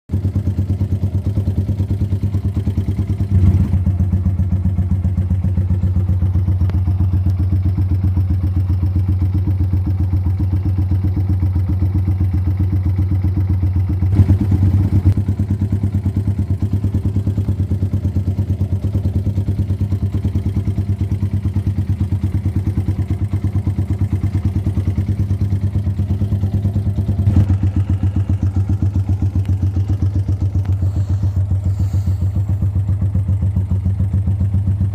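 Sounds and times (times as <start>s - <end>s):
motorcycle engine idling: 0.1s - 34.9s
motorcycle throttle blips: 0.1s - 34.9s.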